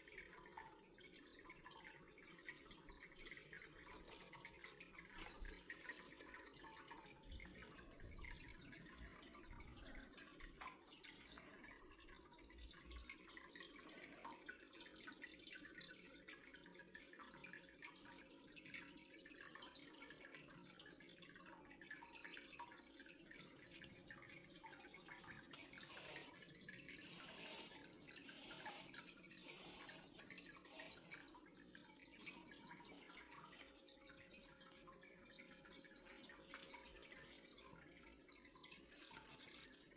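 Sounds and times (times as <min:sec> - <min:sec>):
faint water dripping: 0:00.0 - 0:39.9.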